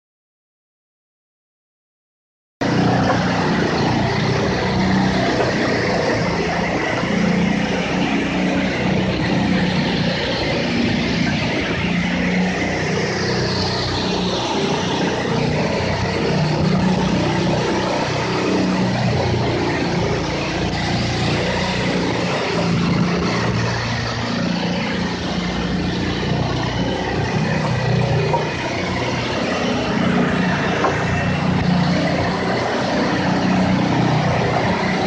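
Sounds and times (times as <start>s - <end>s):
tractor diesel engine running: 2.6s - 35.0s.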